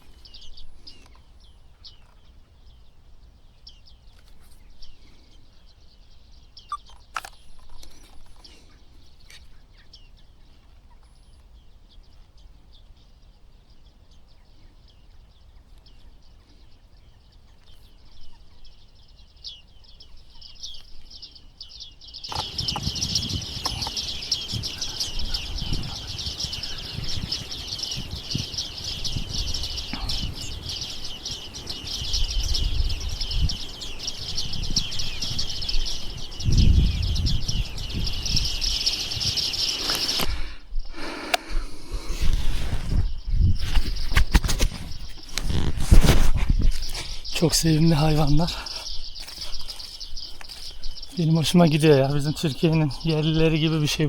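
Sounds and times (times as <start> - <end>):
birds chirping rapidly: 0.0 - 54.0.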